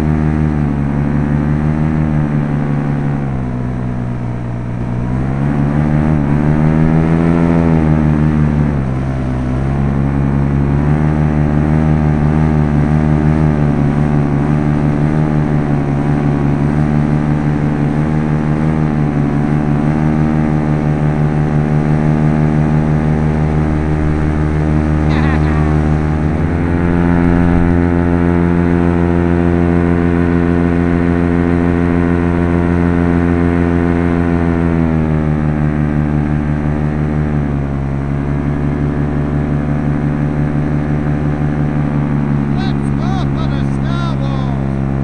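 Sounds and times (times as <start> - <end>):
paramotor engine and propeller: 0.0 - 45.0.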